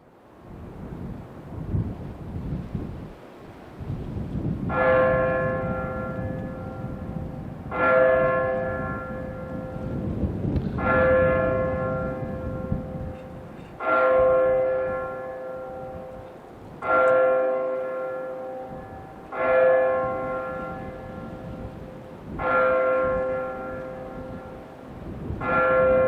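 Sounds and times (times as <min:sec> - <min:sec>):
large tower bell tolling: 0:04.7 - 0:26.0.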